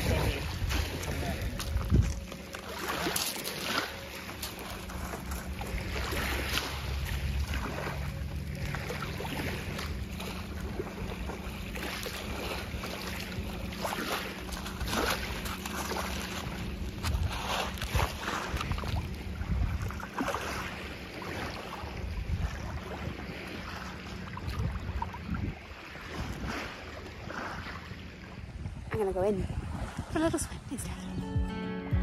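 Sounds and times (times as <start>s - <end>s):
small waves lapping on pebbles: 0.0s - 30.3s
wind rumbling on microphone: 0.0s - 32.0s.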